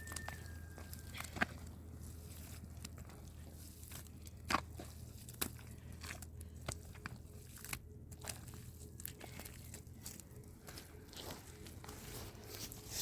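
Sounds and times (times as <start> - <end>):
crunching handling noises: 0.0 - 13.0
steady low hum: 0.0 - 13.0.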